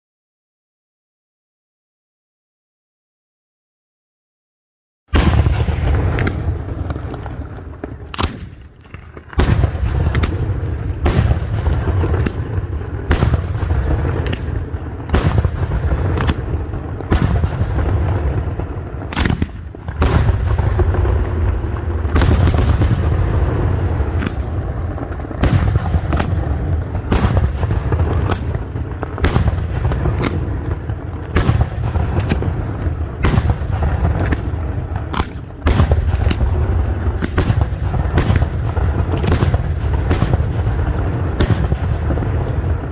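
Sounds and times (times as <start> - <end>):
firework shells bursting: 5.1 - 21.1, 22.1 - 42.3.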